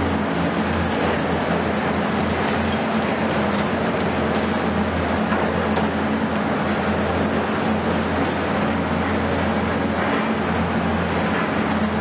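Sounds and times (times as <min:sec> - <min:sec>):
excavator diesel engines humming: 0:00.0 - 0:12.0.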